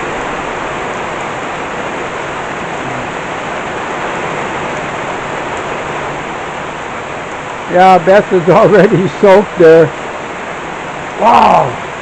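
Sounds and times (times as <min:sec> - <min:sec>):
torrential rain pouring: 0:00.0 - 0:12.0.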